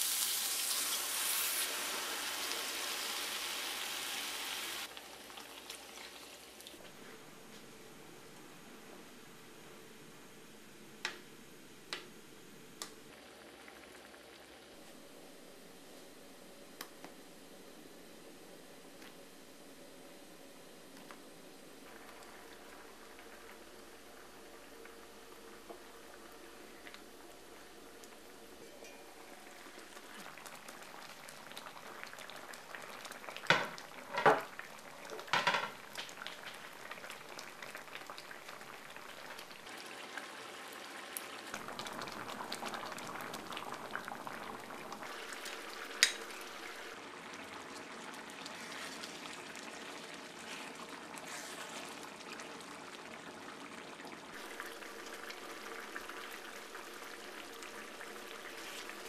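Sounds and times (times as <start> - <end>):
sauce boiling in a pan: 0.0 - 6.9, 13.1 - 16.9, 18.2 - 59.0.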